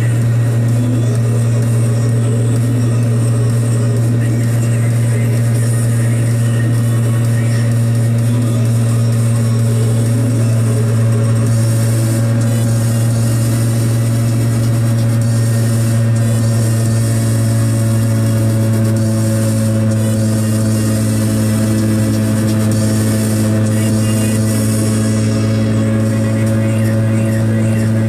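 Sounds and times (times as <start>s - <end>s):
small two-stroke engine droning: 0.0s - 28.0s.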